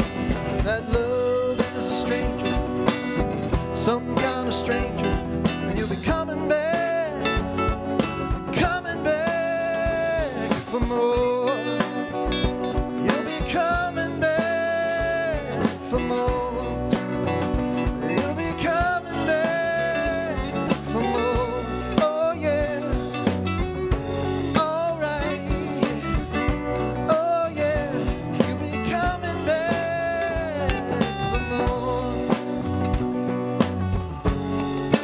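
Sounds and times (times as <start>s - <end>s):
rhythm and blues band playing: 0.0s - 35.0s
wavering lead line: 0.0s - 35.0s.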